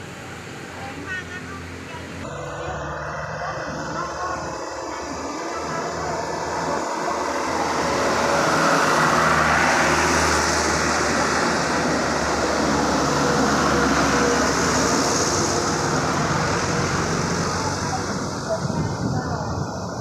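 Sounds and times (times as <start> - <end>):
road and tyre noise: 0.0 - 20.0
truck engine running: 0.0 - 20.0.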